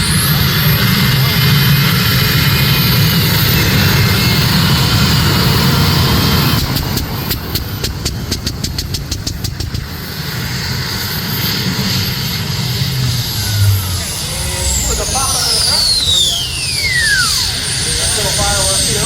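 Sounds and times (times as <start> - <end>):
tractor engine running hard: 0.0 - 19.0.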